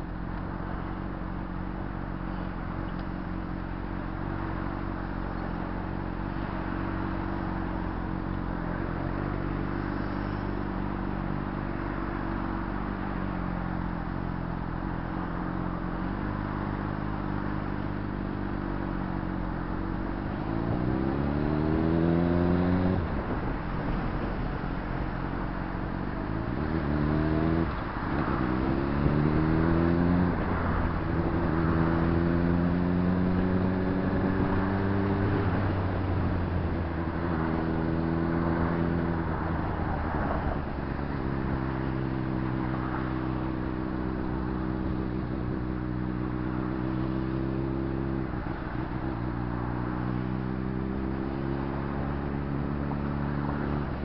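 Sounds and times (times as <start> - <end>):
motorcycle engine revving: 0.8 - 24.0, 25.1 - 54.0.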